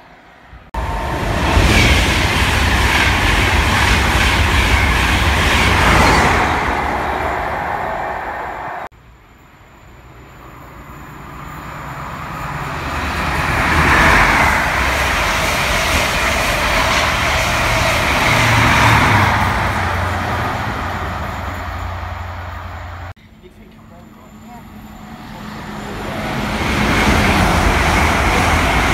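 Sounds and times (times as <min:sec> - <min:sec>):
express train passing at speed: 0:00.0 - 0:28.9.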